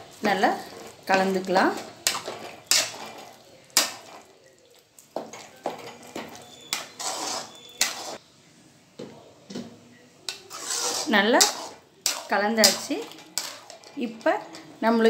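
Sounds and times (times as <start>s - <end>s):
metal ladle scraping a pan: 0.0s - 4.4s, 5.2s - 8.2s, 10.3s - 15.0s.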